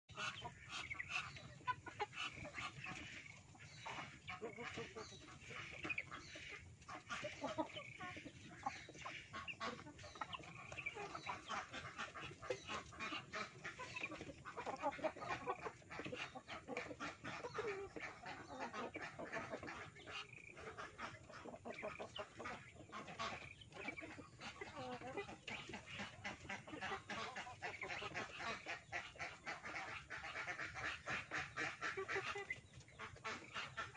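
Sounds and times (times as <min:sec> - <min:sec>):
birds calling: 0:00.1 - 0:33.9.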